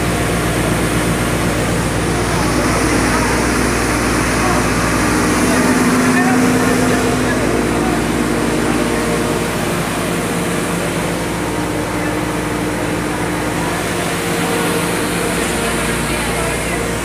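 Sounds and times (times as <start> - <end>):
grinding mill running: 0.0 - 17.0.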